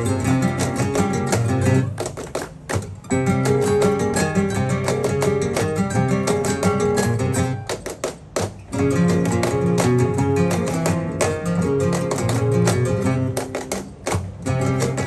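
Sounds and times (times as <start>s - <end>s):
flamenco acoustic guitar: 0.0s - 15.0s
group clapping rhythm: 0.0s - 15.0s.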